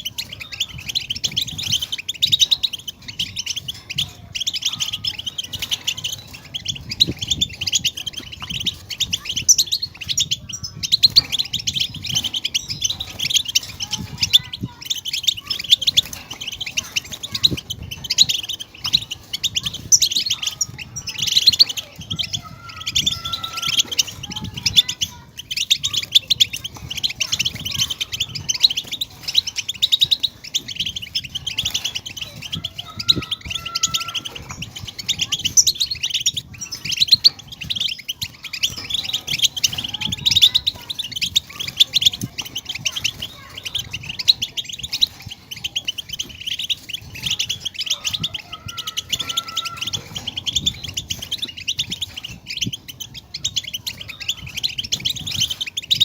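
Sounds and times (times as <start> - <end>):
goldfinch twittering song: 0.0 - 56.0.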